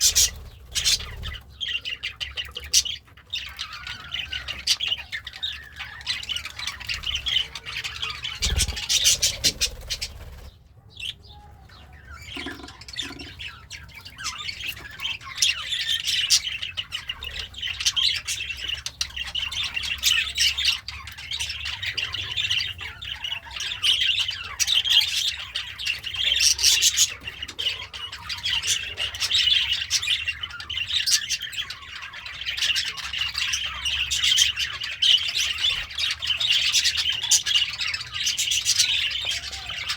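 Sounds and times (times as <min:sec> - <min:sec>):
budgerigar chattering and chirping: 0:00.0 - 0:39.9.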